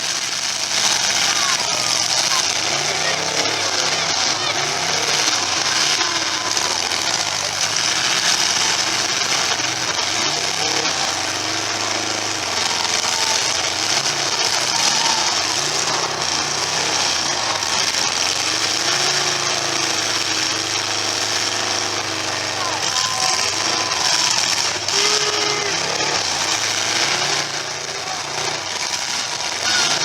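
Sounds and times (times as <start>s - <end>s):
car engines revving: 0.0s - 30.0s
dense steady noise: 0.0s - 30.0s.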